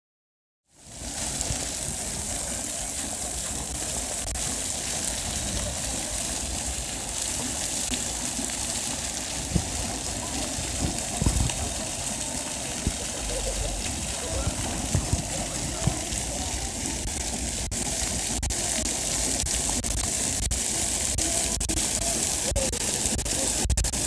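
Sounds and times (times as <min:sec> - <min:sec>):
fountain water splashing on paving: 0:00.7 - 0:24.0.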